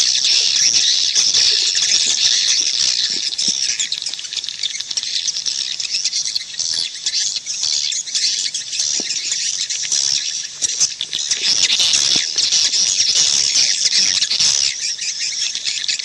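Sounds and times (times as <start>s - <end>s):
swiftlets chirping and twittering: 0.0s - 16.0s.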